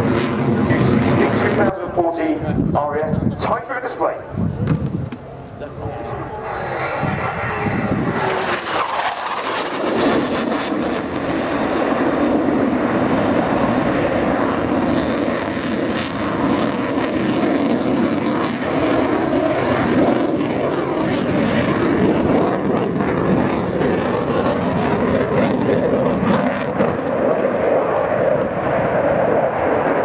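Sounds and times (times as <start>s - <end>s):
loud jet engine noise: 0.0s - 30.0s.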